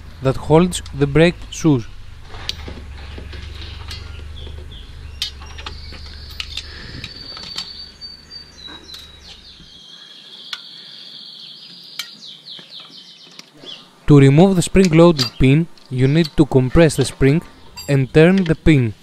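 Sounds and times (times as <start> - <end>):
high continuous chirping: 0.0 - 19.0.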